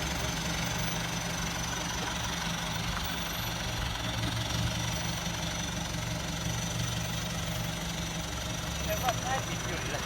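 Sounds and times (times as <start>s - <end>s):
vehicle engine running steadily: 0.0s - 10.0s.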